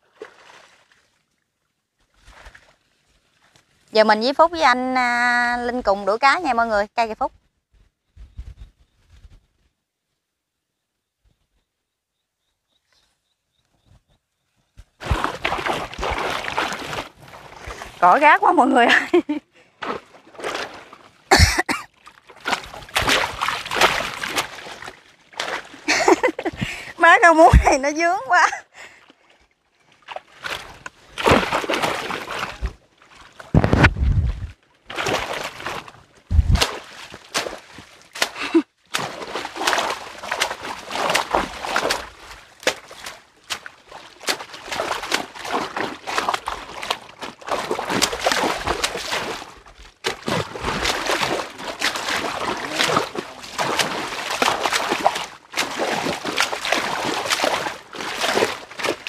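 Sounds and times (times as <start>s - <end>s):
water splashing and sloshing: 0.0s - 7.9s, 14.8s - 59.0s.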